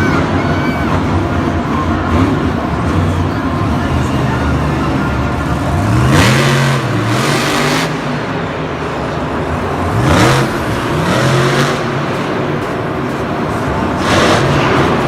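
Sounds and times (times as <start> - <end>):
engine revving: 1.9 - 15.0.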